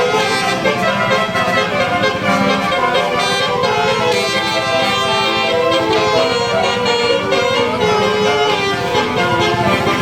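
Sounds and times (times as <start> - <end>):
multi-tone bus horn melody: 0.0 - 10.0.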